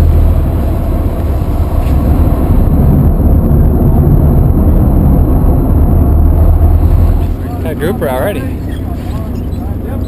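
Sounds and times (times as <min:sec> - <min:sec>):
boat engine low rumble: 0:00.0 - 0:10.0.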